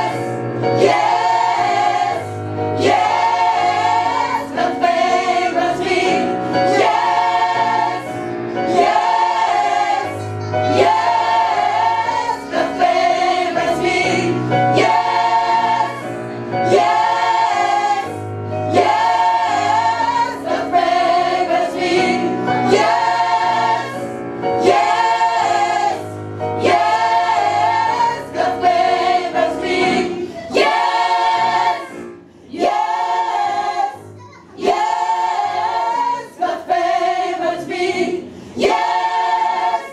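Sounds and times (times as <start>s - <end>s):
gospel choir singing: 0.0s - 39.9s.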